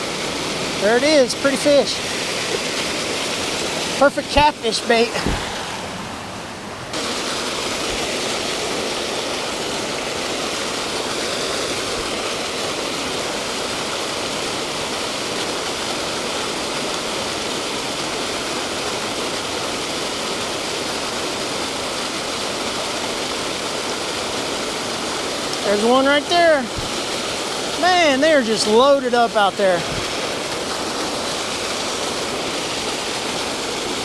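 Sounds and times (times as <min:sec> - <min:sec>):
water rushing from spillway: 0:00.0 - 0:34.0.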